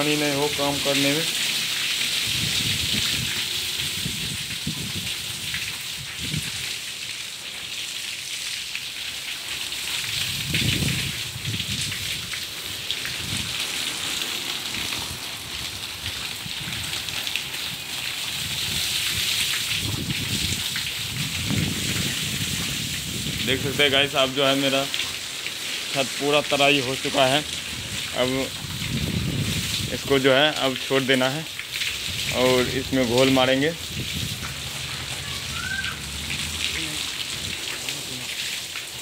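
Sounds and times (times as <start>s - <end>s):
water pouring and splashing on floor: 0.0s - 39.0s.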